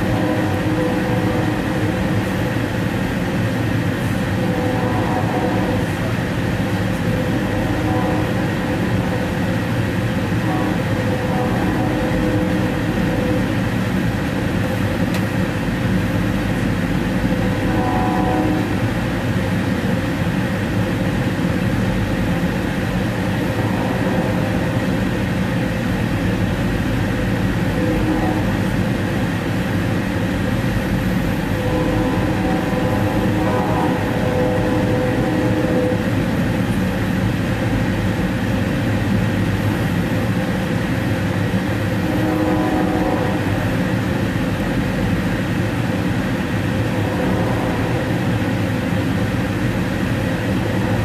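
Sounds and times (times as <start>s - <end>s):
train rolling rumble: 0.0s - 51.0s.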